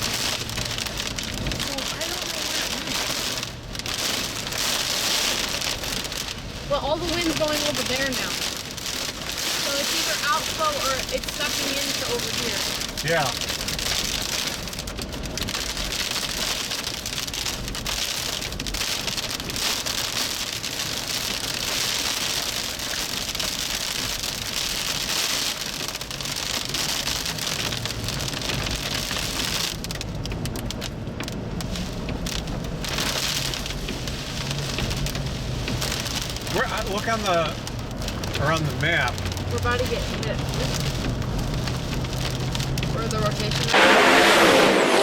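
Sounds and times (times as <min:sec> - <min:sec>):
heavy rain on vehicle: 0:00.0 - 0:45.0.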